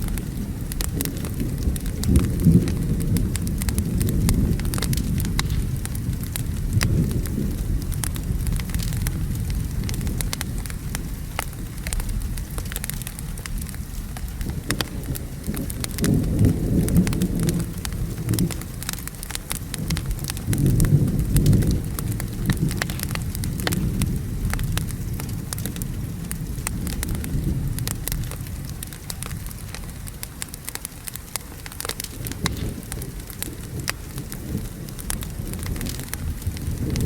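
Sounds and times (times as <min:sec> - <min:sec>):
steady rain: 0:00.0 - 0:37.0
thunder rumbling: 0:00.0 - 0:37.0
wood fire crackling and popping: 0:00.0 - 0:37.0.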